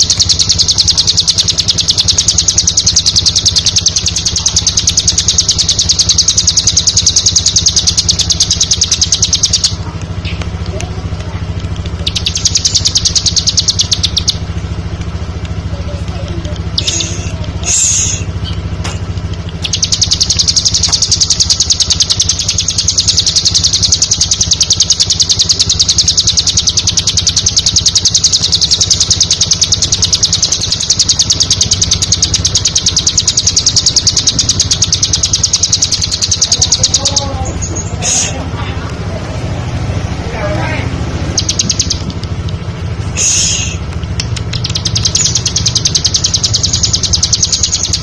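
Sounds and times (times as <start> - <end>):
bird singing rapid trill: 0.0 - 10.5, 11.8 - 14.9, 15.7 - 38.5, 40.1 - 48.0
steady low hum: 0.0 - 48.0.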